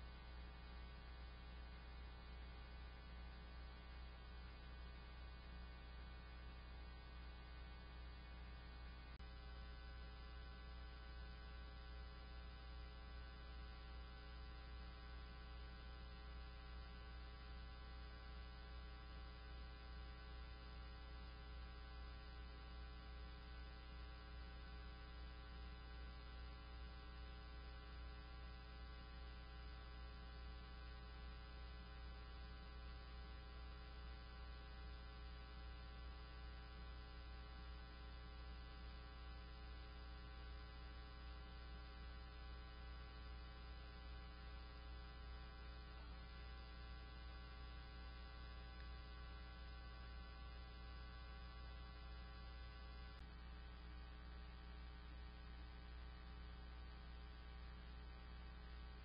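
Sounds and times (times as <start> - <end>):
faint electrical hum: 0.0 - 59.0.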